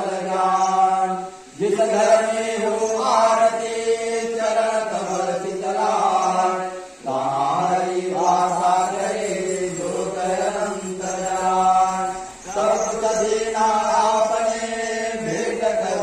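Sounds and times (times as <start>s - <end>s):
man chanting a hymn: 0.0s - 16.0s.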